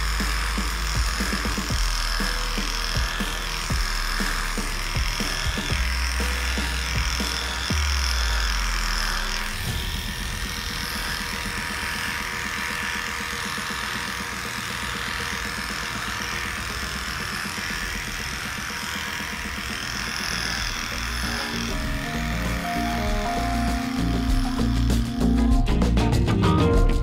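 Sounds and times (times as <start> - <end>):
electric clipper buzzing: 0.0 - 25.7.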